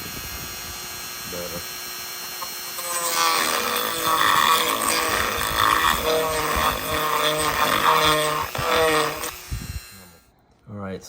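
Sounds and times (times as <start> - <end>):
rotary tool grinding whine: 0.0 - 10.3.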